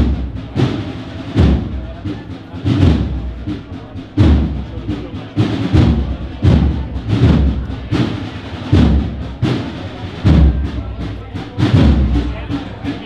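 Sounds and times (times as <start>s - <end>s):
bass drum strokes: 0.0s - 13.0s
snare drum strokes: 0.0s - 13.0s.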